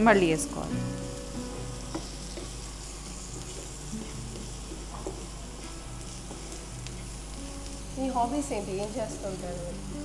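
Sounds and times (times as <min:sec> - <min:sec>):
garlic frying in oil: 0:00.0 - 0:10.0.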